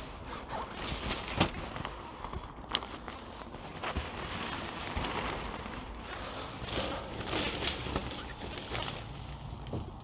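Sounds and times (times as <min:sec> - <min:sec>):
tent fabric rustling: 0:00.0 - 0:09.7.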